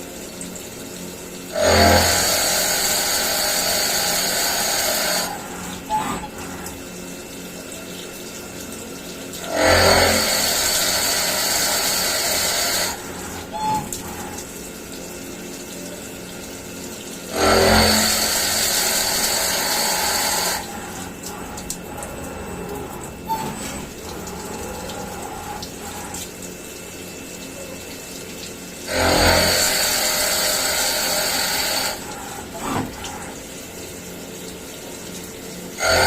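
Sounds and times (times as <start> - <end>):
milling machine hum: 0.0 - 36.0.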